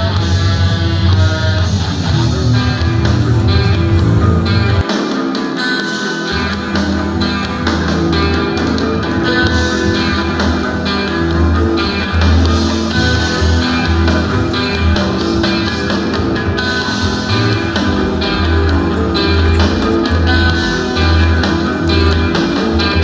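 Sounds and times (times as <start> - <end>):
background music with guitar: 0.0 - 23.0.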